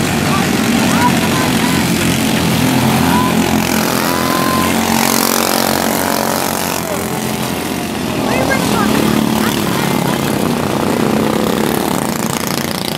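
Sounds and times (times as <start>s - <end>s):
race car engines roaring: 0.0s - 12.9s.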